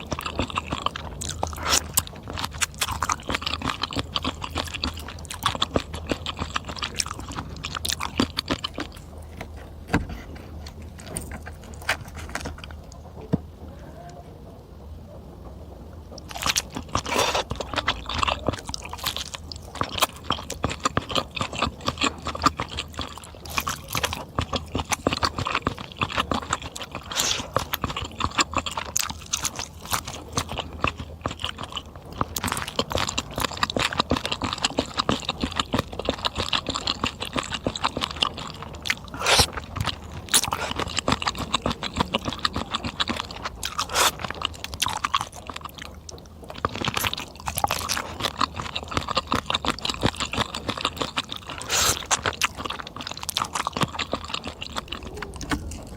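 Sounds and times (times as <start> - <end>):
chewing and crunching: 0.0 - 14.2, 16.1 - 55.9.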